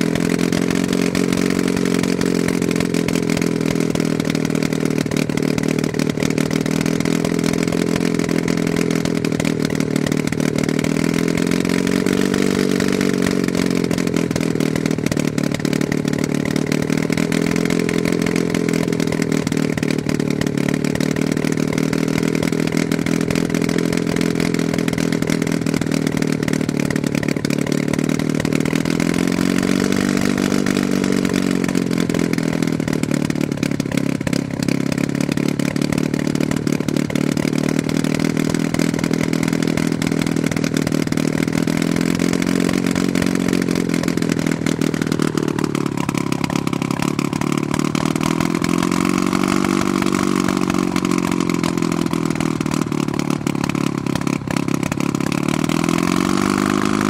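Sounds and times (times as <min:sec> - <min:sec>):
gyrocopter engine running: 0:00.0 - 0:57.0.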